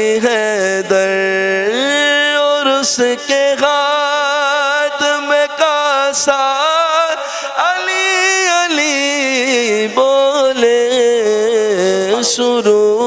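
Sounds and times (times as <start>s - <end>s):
man singing through microphone: 0.0s - 13.0s.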